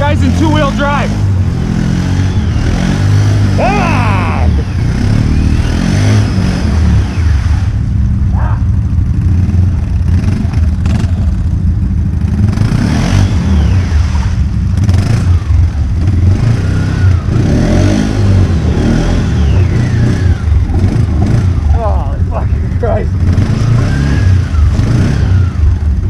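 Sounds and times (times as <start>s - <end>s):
atv engines revving: 0.0s - 26.0s.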